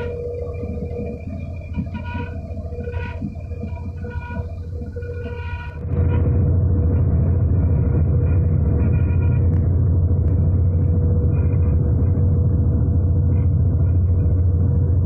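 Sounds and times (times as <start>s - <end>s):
combine harvester engine drone: 0.0s - 15.0s
faint steady whine: 0.0s - 15.0s.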